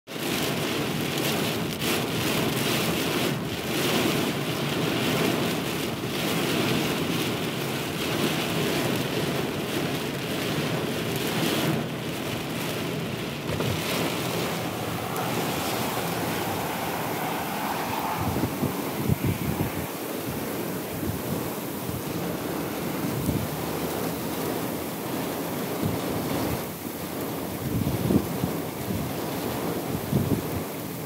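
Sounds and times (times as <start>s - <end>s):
rain beating on a vehicle: 0.1s - 31.0s.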